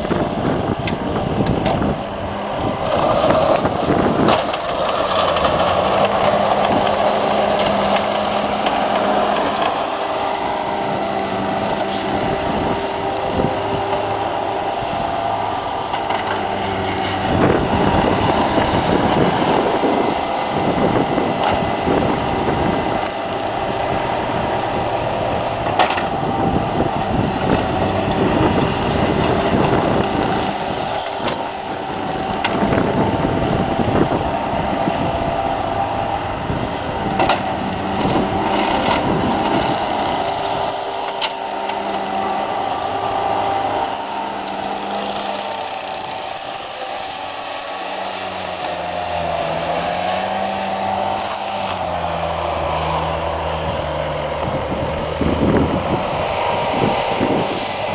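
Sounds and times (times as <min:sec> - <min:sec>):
diesel engine under load: 0:00.0 - 0:57.9
tracks rattling: 0:00.0 - 0:57.9.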